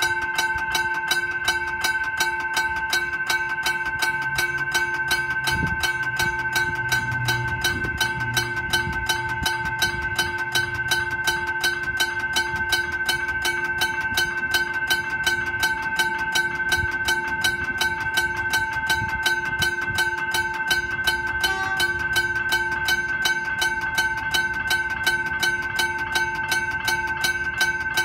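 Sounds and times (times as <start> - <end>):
level crossing bell ringing: 0.0 - 28.0.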